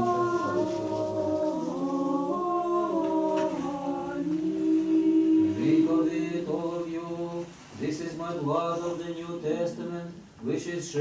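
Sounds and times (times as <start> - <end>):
choir singing unaccompanied chant: 0.0 - 11.0.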